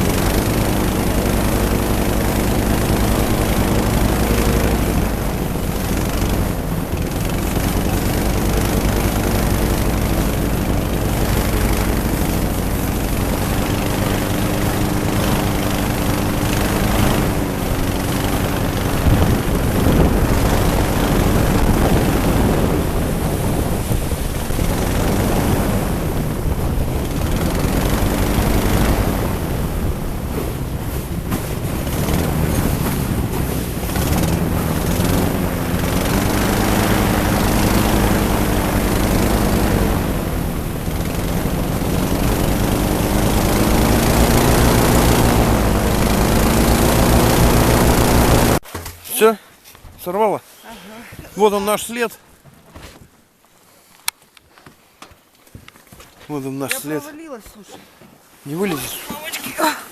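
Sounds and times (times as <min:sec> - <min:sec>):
airboat engines and propellers: 0:00.0 - 0:48.6, 0:51.4 - 0:52.2, 0:56.3 - 0:59.9
wind noise on microphone: 0:00.0 - 0:48.6.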